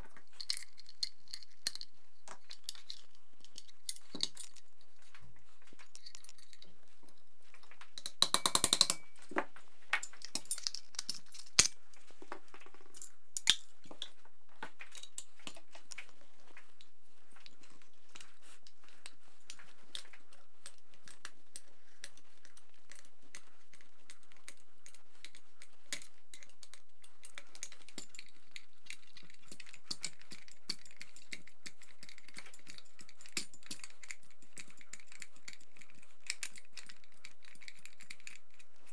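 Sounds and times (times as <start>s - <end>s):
soft ticks and scrapes: 0.0s - 8.0s, 13.8s - 38.9s.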